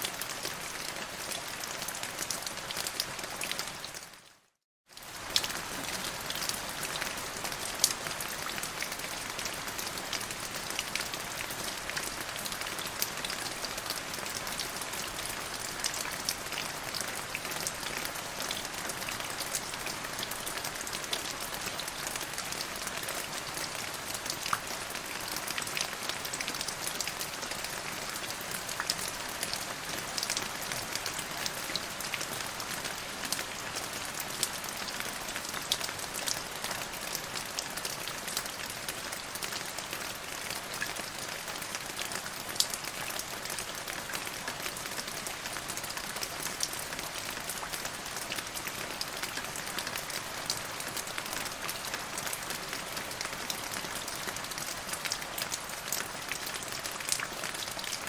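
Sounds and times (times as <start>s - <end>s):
rain on hard surface: 0.0s - 58.0s.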